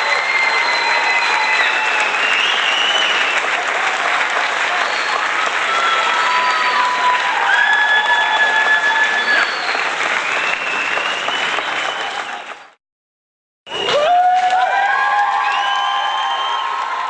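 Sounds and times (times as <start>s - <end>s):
crowd cheering and applauding: 0.0s - 12.8s, 13.7s - 17.0s.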